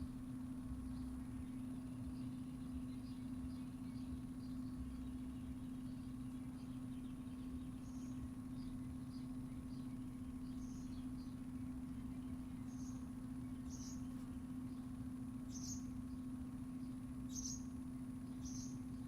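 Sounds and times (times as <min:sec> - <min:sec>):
low hum and rumble: 0:00.0 - 0:19.0
small bird chirping: 0:00.1 - 0:19.0.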